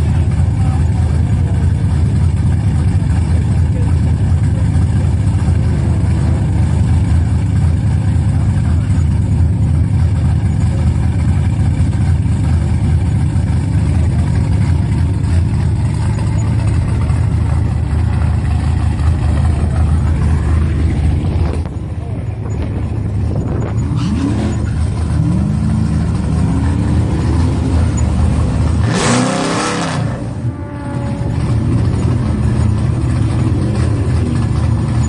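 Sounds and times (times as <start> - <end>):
engine rumbling: 0.0 - 35.0.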